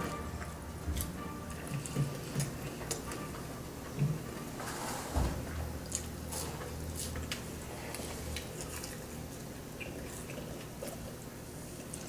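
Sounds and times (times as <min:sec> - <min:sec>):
low steady hum: 0:00.0 - 0:12.0
quiet chewing: 0:00.0 - 0:12.0.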